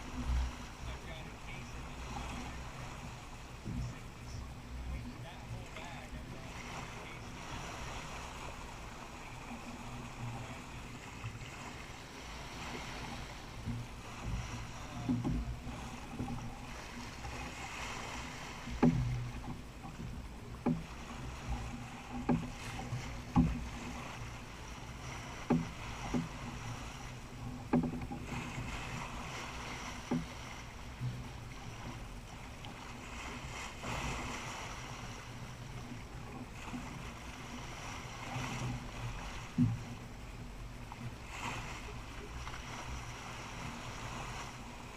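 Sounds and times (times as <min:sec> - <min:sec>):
water washing along hull: 0:00.0 - 0:44.9.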